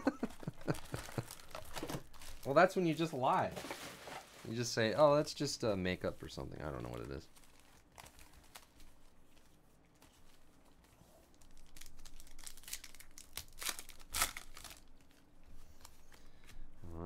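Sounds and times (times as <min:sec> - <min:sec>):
foil wrapper crinkling and tearing: 0:00.3 - 0:04.6, 0:06.2 - 0:15.9.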